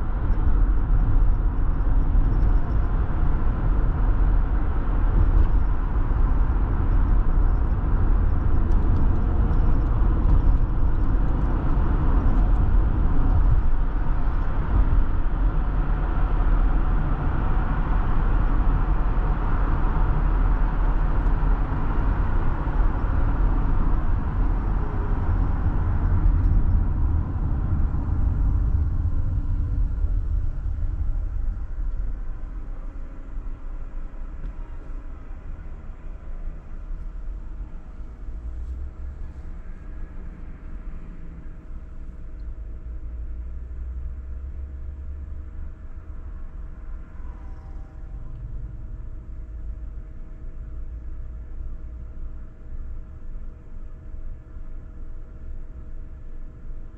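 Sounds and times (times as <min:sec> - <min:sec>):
car road noise from inside: 0:00.0 - 0:56.9.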